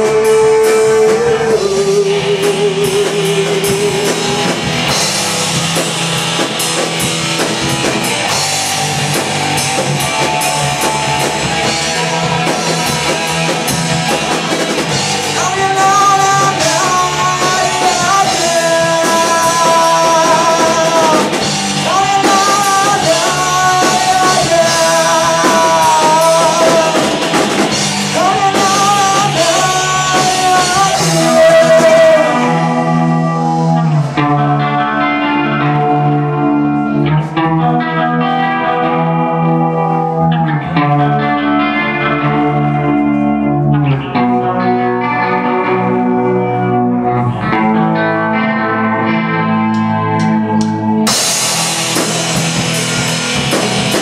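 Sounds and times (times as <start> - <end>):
person singing: 0.0 - 54.0
rock music with drums and guitar: 0.0 - 54.0.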